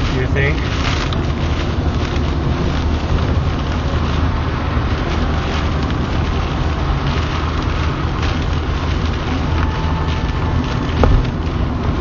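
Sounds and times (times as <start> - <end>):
rain hitting car roof: 0.0 - 12.0
road rumble inside car: 0.0 - 12.0.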